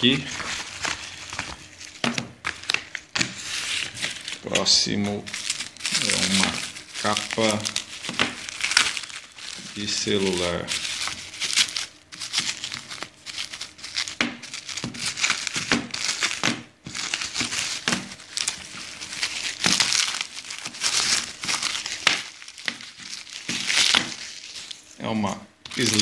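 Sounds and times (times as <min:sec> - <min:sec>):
plastic wrapping crinkling: 0:00.0 - 0:25.0, 0:25.7 - 0:26.0.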